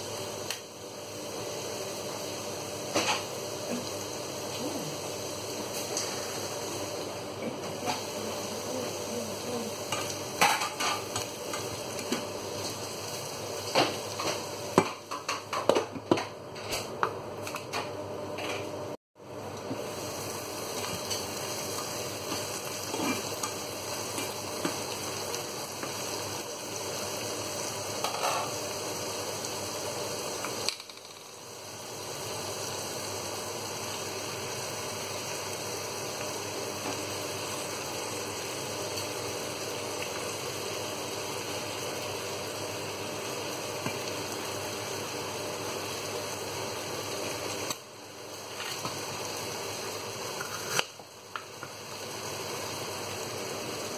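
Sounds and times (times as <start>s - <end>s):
vegetables sizzling in frying pan: 0.0s - 18.6s, 19.2s - 53.9s.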